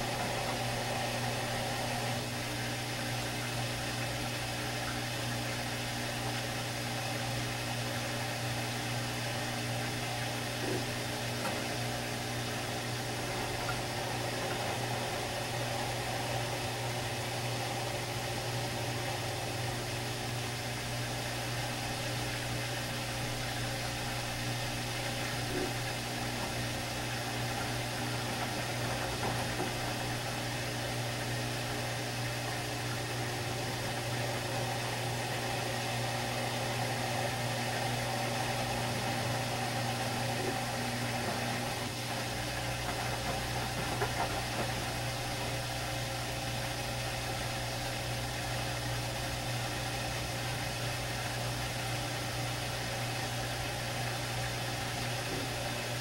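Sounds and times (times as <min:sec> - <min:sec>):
motor hum: 0:00.0 - 0:56.0.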